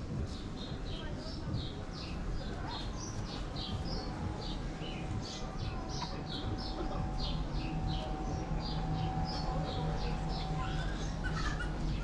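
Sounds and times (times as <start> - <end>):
low street rumble: 0.0 - 12.0
small birds chirping: 0.0 - 12.0.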